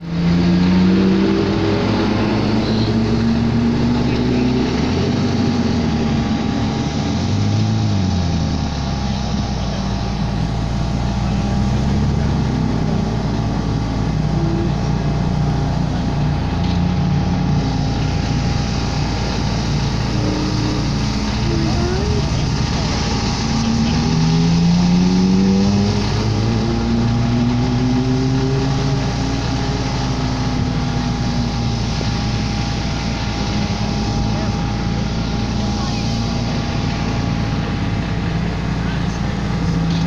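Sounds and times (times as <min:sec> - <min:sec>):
sports car engine revving: 0:00.0 - 0:40.0.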